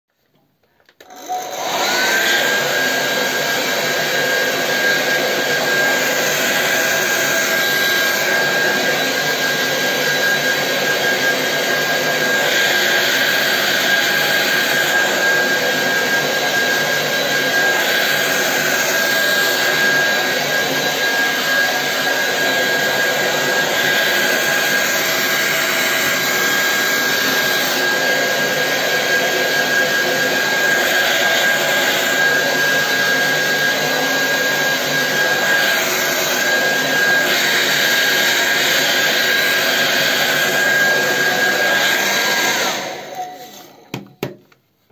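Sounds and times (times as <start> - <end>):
hair dryer running: 1.0 - 44.4.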